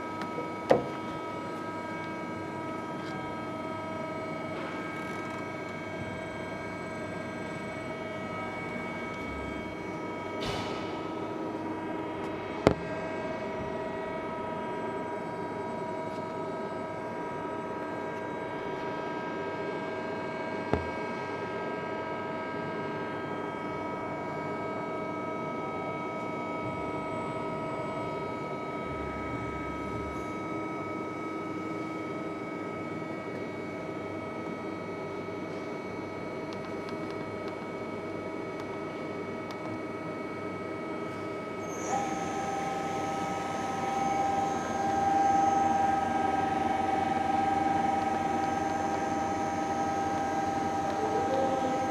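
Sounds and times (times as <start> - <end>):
machine hum with whining tones: 0.0 - 51.9.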